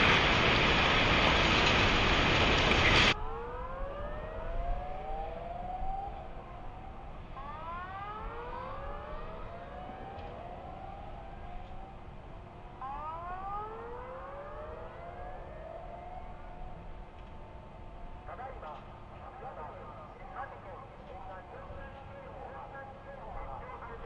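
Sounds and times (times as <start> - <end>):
sirens wailing: 0.0 - 24.0.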